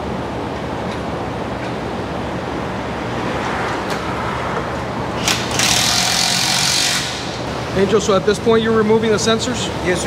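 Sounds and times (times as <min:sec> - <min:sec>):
shop background hum: 0:00.0 - 0:10.0.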